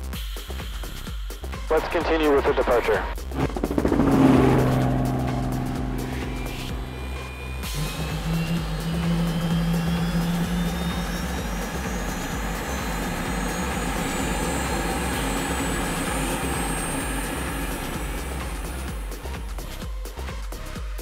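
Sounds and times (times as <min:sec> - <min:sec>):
helicopter whine rising: 0:01.8 - 0:19.8
helicopter rotor pulse: 0:02.2 - 0:19.9.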